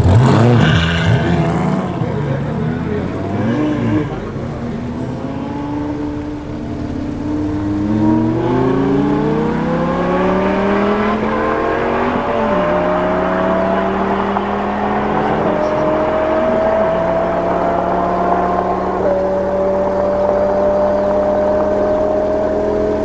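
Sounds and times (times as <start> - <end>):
sports car engine accelerating hard: 0.0 - 23.0.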